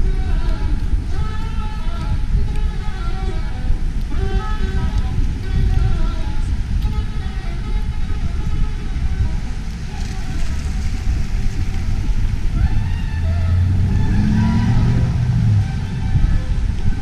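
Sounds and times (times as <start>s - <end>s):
road traffic: 0.0s - 17.0s
vehicle engine hum: 0.0s - 17.0s
wind rumble on microphone: 0.0s - 17.0s.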